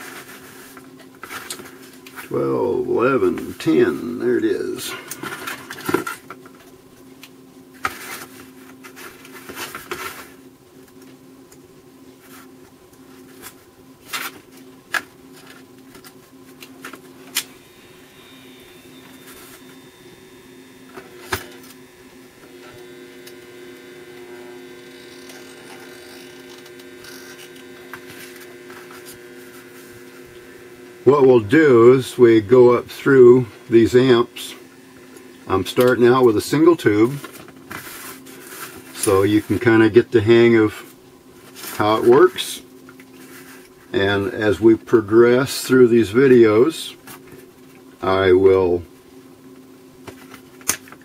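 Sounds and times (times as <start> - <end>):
high steady buzz: 0.0 - 51.0
steady electrical hum: 0.0 - 51.0.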